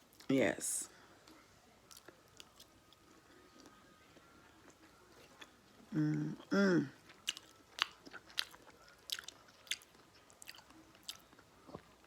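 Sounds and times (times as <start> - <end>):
close chewing with mouth clicks: 1.9 - 12.0.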